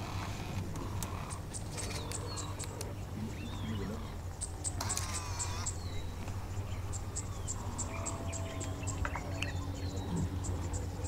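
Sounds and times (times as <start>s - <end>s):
insect chirping: 0.0s - 11.0s
steady low rumble: 0.0s - 11.0s.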